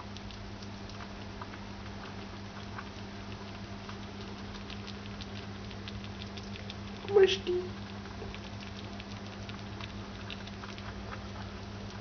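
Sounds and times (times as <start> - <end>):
low steady hum: 0.0 - 12.0
rodent chewing and lapping: 0.0 - 12.0.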